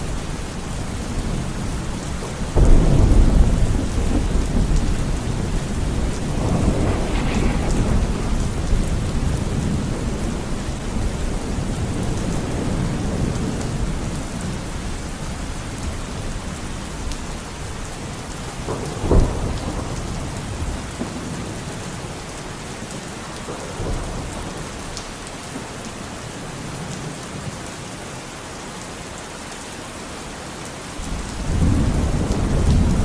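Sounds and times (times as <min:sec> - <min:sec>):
thunder clap and rumble: 0:00.0 - 0:25.7, 0:31.0 - 0:33.0
rain falling: 0:00.0 - 0:33.0.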